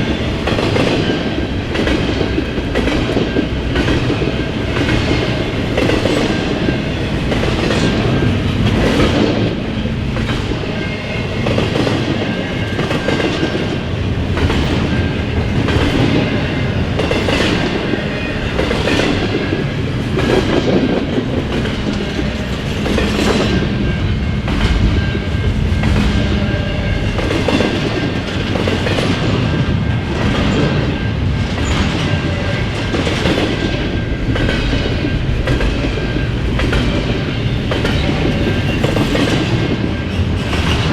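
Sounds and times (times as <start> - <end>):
train rumble: 0.0 - 40.9
train wheels clacking over rail joints: 0.0 - 40.9.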